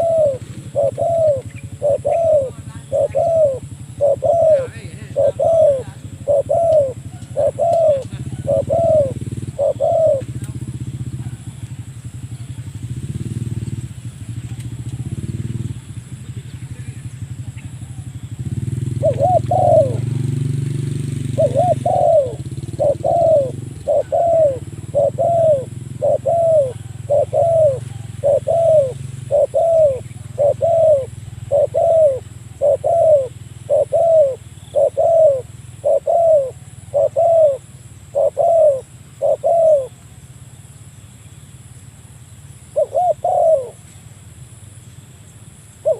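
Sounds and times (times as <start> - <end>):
dove cooing: 0.0 - 40.0, 42.7 - 44.0, 45.6 - 45.9.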